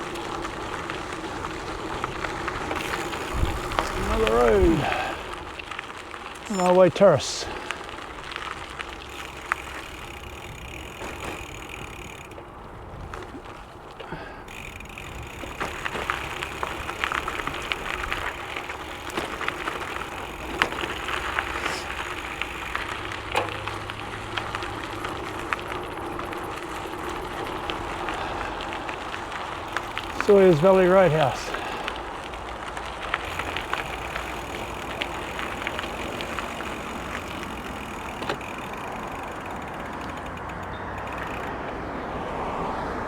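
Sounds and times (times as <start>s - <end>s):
bike clicks and rattles: 0.0s - 42.6s
bike tyres on gravel: 0.0s - 43.0s.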